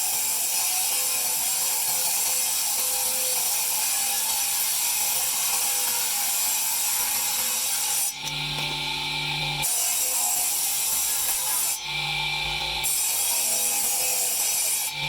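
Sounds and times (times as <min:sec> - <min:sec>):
power tool grinding marble: 0:00.0 - 0:15.0.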